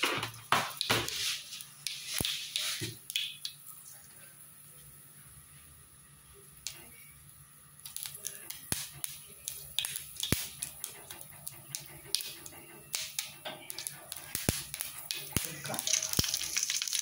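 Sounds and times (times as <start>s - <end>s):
seeds popping in hot oil: 0.0s - 3.9s, 6.5s - 17.0s
oil sizzling: 0.0s - 17.0s.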